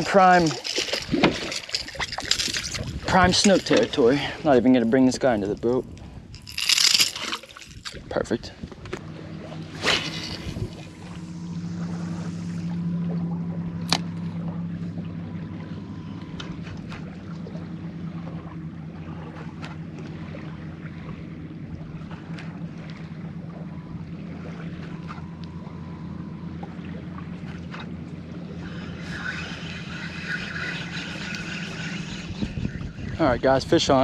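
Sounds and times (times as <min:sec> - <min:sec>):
boat motor humming: 0:00.0 - 0:34.0.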